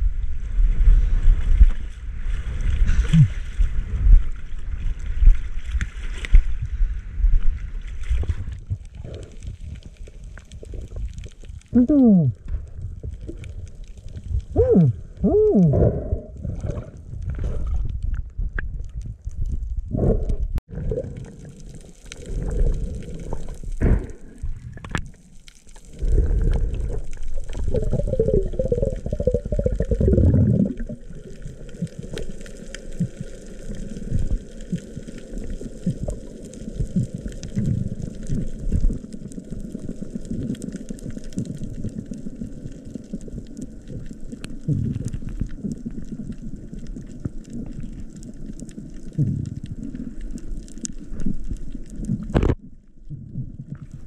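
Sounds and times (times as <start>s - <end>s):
underwater rumbling and bubbling: 0.0s - 54.0s
small underwater clicks: 7.8s - 15.3s, 16.4s - 54.0s.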